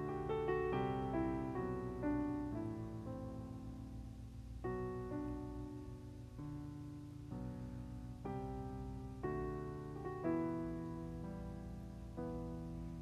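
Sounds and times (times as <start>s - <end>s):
slow soft piano music: 0.0s - 13.0s.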